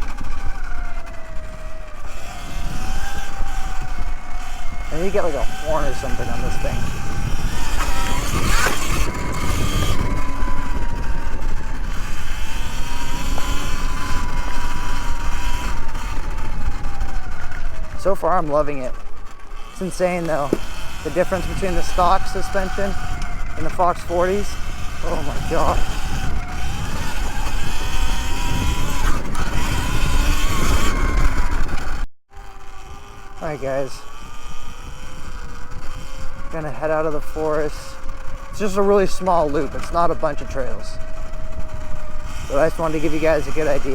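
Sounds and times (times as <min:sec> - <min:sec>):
electric drivetrain whine: 0:00.0 - 0:43.9
tyres on ground: 0:00.0 - 0:43.9
wind rumble on microphone: 0:00.0 - 0:43.9.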